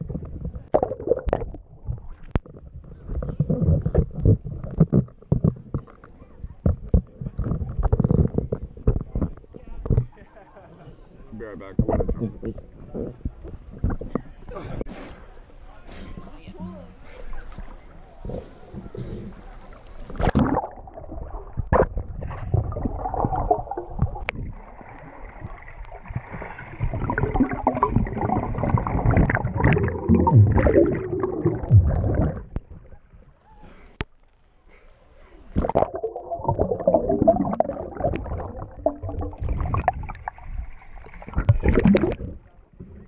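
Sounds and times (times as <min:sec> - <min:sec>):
muffled water sloshing and gurgling: 0:00.0 - 0:10.7, 0:11.6 - 0:14.9, 0:17.1 - 0:43.0.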